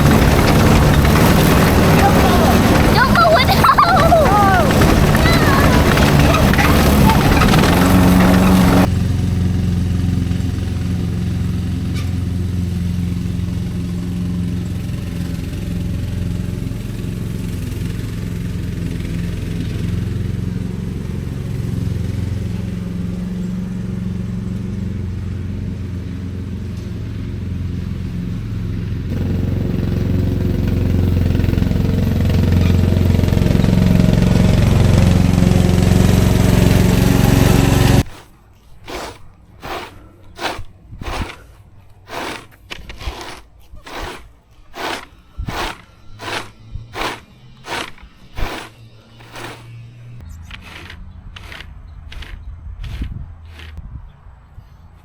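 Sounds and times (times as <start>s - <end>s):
lawn mower engine running: 0.0s - 53.8s.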